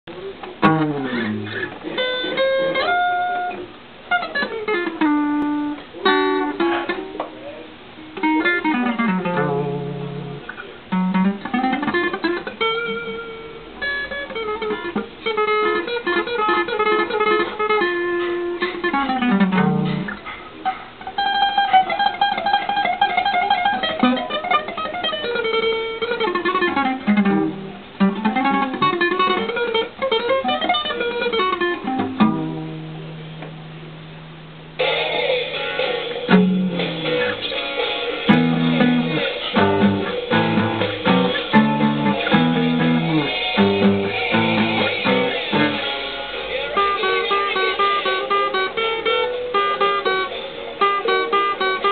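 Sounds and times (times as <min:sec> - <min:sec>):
electric guitar solo: 0:00.1 - 0:51.9.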